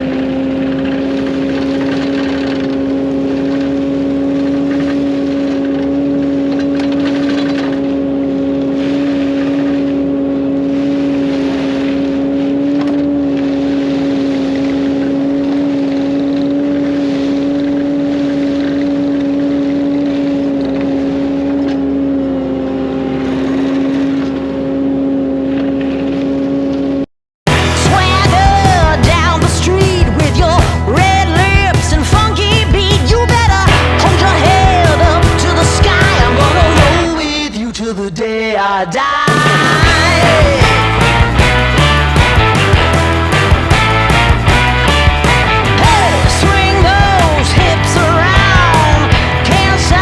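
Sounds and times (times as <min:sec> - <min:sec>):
heavy diesel engine drone: 0:00.0 - 0:50.0.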